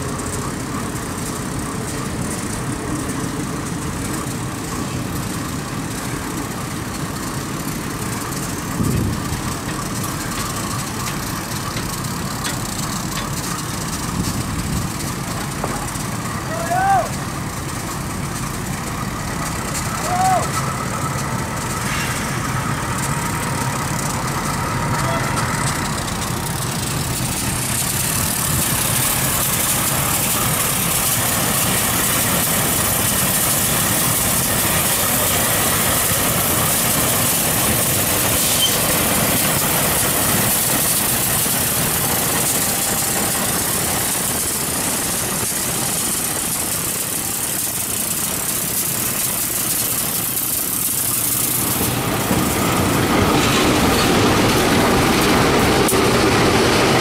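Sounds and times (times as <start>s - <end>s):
close diesel locomotive engine: 0.0s - 57.0s
diesel locomotives running: 0.0s - 57.0s
hiss: 0.0s - 57.0s.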